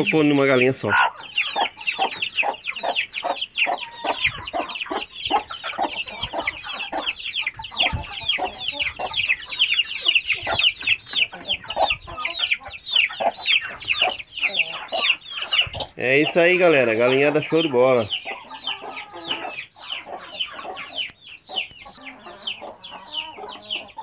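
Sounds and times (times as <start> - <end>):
chicks peeping: 0.0 - 24.0
hen clucking: 0.0 - 24.0.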